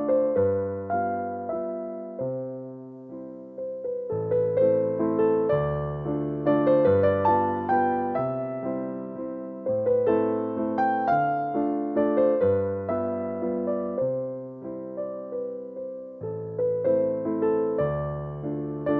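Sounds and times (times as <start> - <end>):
slow solo piano music: 0.0 - 18.9.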